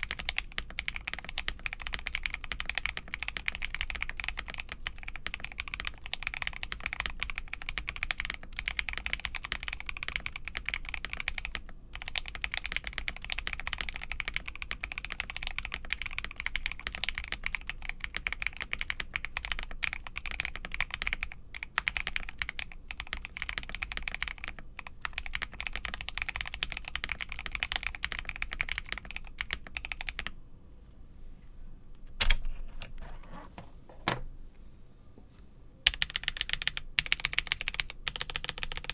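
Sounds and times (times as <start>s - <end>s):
mechanical keyboard typing: 0.0s - 30.3s, 35.9s - 38.9s.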